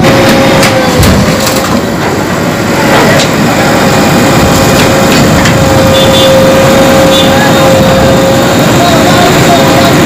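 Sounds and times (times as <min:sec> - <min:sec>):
diesel engine under load: 0:00.0 - 0:10.0
steady whine: 0:00.0 - 0:10.0.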